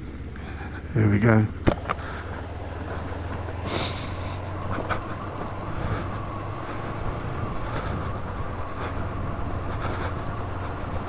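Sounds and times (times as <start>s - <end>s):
motorcycle engine running: 0.0s - 11.0s
wind noise: 1.5s - 11.0s.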